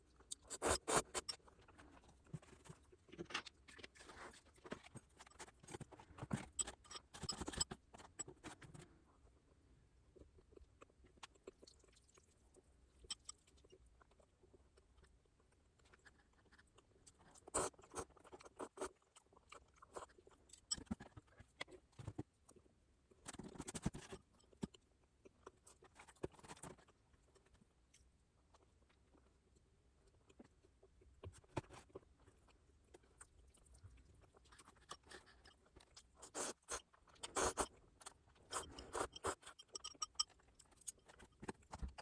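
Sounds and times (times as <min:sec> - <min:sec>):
close chewing of food: 0:00.0 - 0:09.3, 0:09.9 - 0:42.0.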